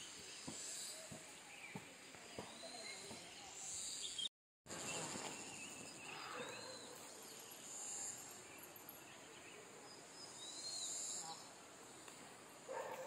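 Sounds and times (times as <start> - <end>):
insects droning: 2.5 - 13.0.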